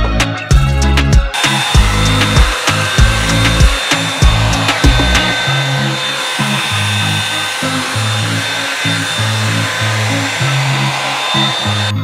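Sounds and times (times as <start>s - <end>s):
background music with bass: 0.0s - 12.0s
hair dryer brush whirring: 1.3s - 12.0s.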